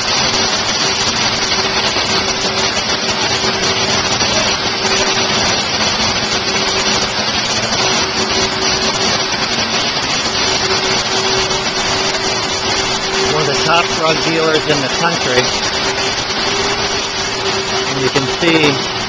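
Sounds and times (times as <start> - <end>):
constant hum: 0.0 - 19.0
machinery running loudly: 0.0 - 19.0.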